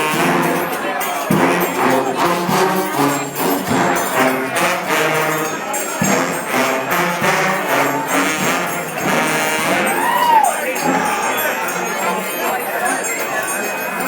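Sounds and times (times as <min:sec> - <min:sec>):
trombones playing a tune: 0:00.0 - 0:12.5.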